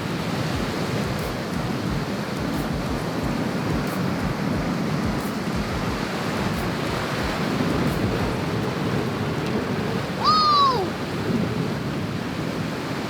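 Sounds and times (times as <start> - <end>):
surf on rocky shore: 0.0 - 13.0
wind buffeting microphone: 0.0 - 13.0.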